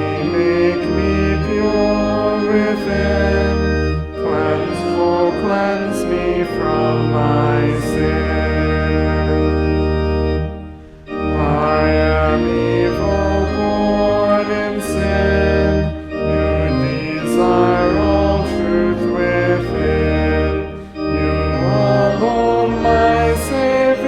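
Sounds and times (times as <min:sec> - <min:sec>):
church organ chords: 0:00.0 - 0:24.0.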